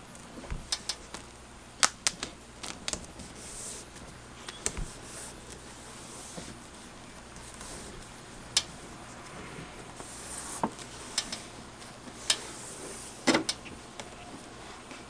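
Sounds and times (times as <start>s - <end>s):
tape crackling and snapping: 0.0s - 9.3s, 9.9s - 15.0s
tape rustling: 0.0s - 15.0s.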